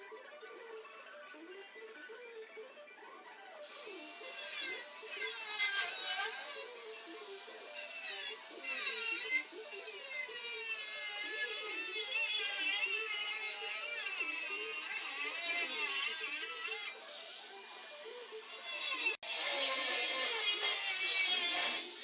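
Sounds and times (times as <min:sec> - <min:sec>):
cutting wheel whining on steel: 0:01.6 - 0:22.0.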